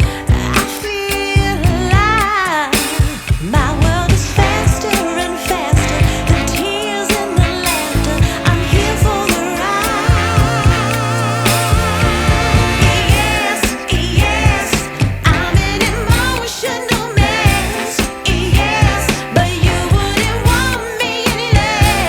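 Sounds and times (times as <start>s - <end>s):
pop soul song with vocals: 0.0s - 22.0s.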